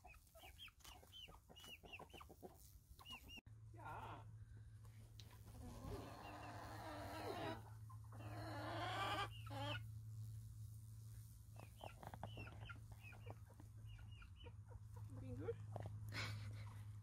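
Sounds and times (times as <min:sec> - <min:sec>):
hens clucking: 0:00.0 - 0:03.4, 0:05.2 - 0:10.0, 0:11.0 - 0:17.0.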